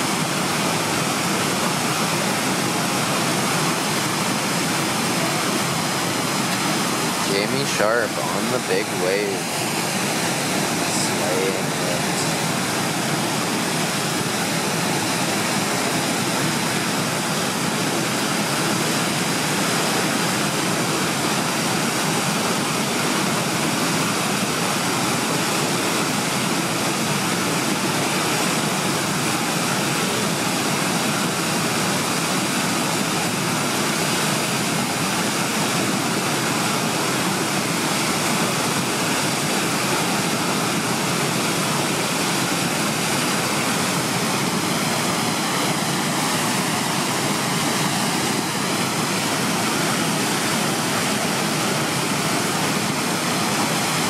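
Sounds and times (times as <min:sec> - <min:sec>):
rushing whitewater rapids: 0:00.0 - 0:54.0.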